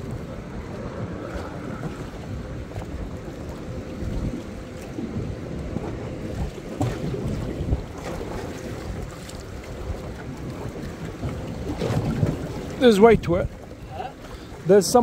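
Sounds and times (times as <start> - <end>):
water slapping boat hull: 0.0 - 15.0
wind buffeting microphone: 0.0 - 15.0.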